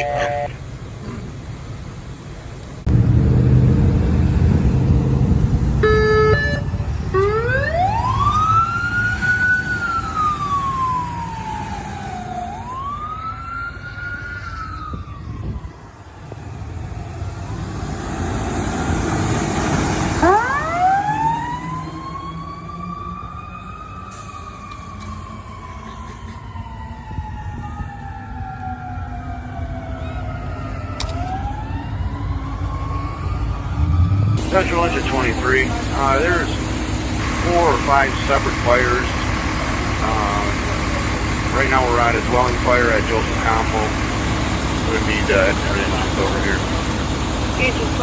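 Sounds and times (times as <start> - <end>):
siren wailing: 0.0 - 0.6, 4.3 - 18.2, 20.0 - 48.0
heavy engine rumble: 0.0 - 14.3, 14.9 - 21.3, 29.6 - 48.0.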